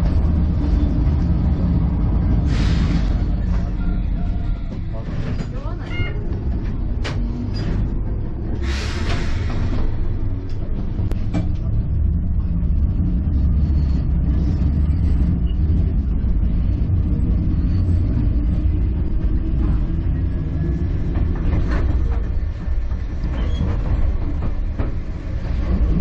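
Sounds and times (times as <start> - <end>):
electric train rumbling on rails: 0.0 - 26.0.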